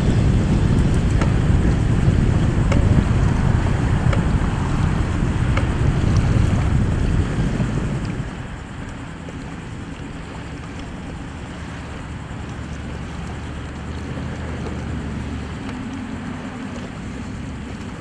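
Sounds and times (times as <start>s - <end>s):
low steady drone: 0.0s - 18.0s
water lapping: 0.0s - 18.0s
wind buffeting microphone: 0.0s - 18.0s.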